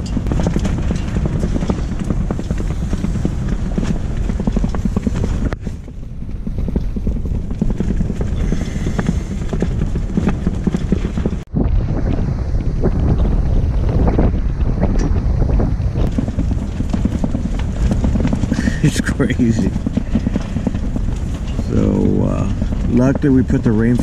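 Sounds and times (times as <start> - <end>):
rushing wind: 0.0 - 24.0
tent fabric flapping and rattling: 0.0 - 24.0.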